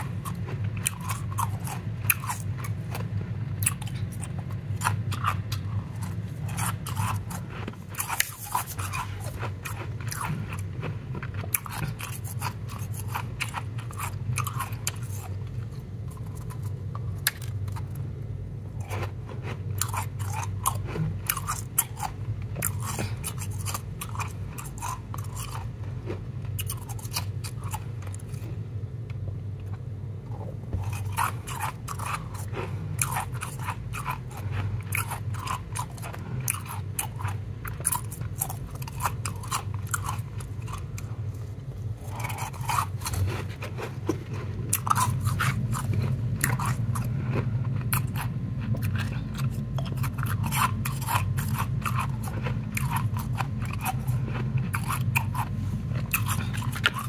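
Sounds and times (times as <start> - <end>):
ice crunching while chewed: 0.0 - 18.0, 18.8 - 28.6, 29.6 - 57.0
steady low hum: 0.0 - 57.0.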